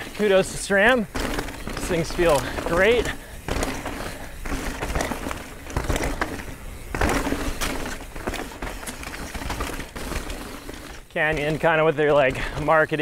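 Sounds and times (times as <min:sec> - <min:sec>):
bike clattering over bumps: 0:00.0 - 0:13.0
bike tyres rolling over dirt: 0:00.0 - 0:13.0.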